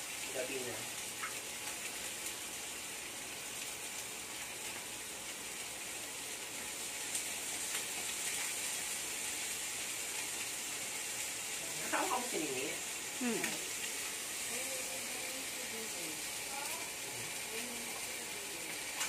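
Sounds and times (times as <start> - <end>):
meat and onion sizzling in a pan: 0.0 - 19.0.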